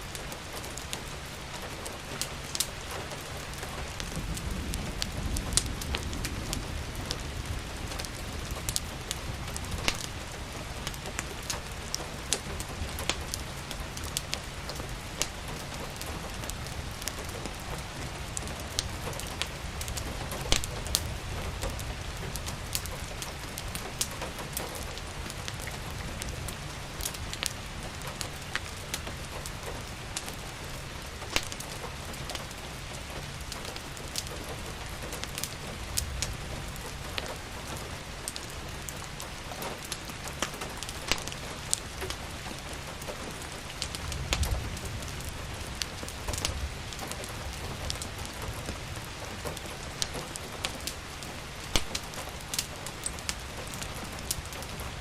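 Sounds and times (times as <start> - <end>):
rain falling: 0.0 - 55.0
wood fire crackling: 0.0 - 55.0.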